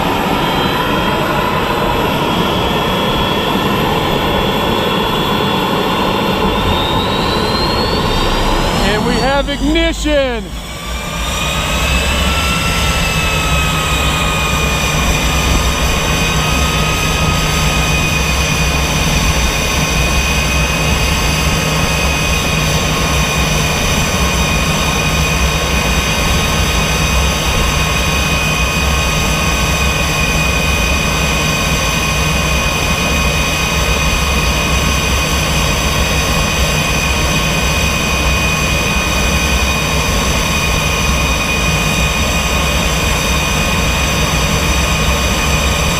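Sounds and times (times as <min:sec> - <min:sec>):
jet engine idling whine: 0:00.0 - 0:45.9.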